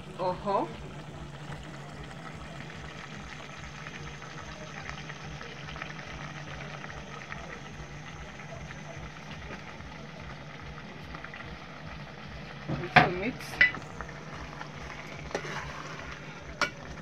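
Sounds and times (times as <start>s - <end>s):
low hum: 0.0s - 12.7s, 13.5s - 17.0s
stew bubbling in a pot: 0.0s - 17.0s.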